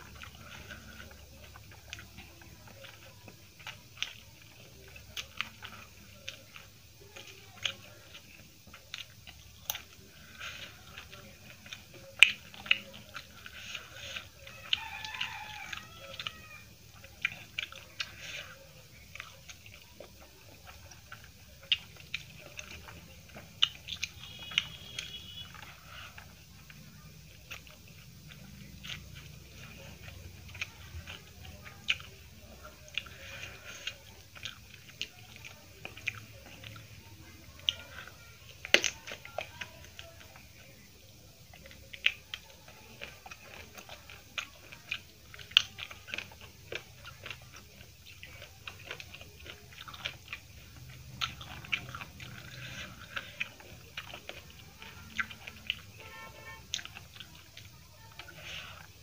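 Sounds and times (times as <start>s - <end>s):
chewing with wet mouth clicks: 0.0s - 59.0s.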